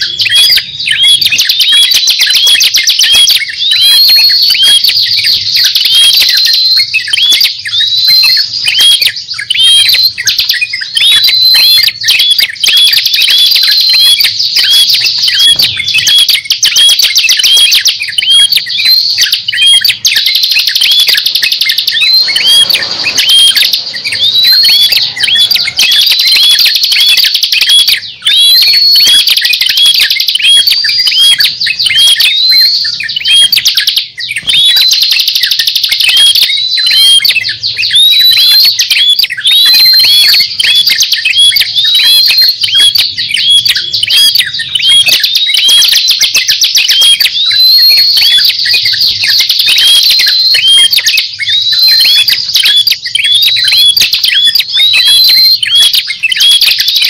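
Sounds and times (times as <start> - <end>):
high bird chirps: 0.0 - 57.0.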